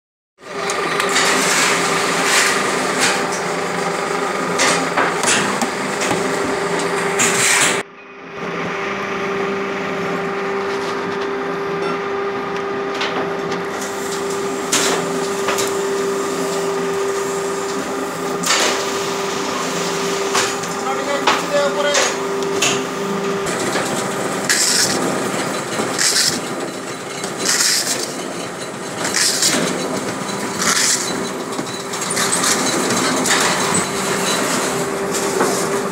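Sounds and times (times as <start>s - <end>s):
machine hum: 0.4s - 35.9s.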